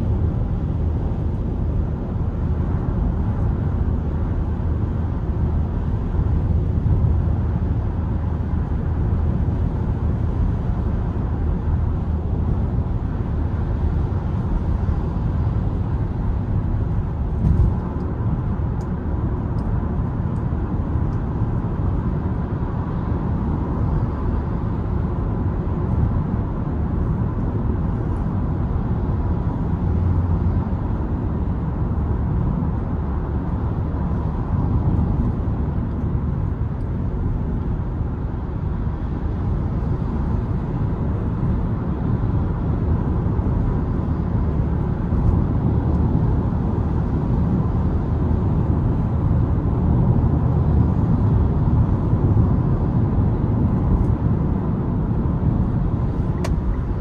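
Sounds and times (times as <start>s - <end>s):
engine hum: 0.0s - 57.0s
road and tyre drone: 0.0s - 57.0s.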